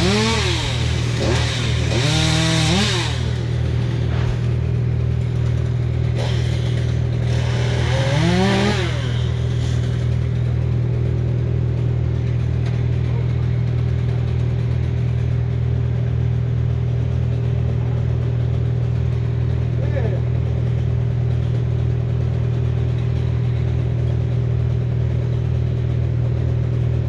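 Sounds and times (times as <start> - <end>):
chainsaw revving: 0.0 - 24.3
engine idling: 0.0 - 27.0.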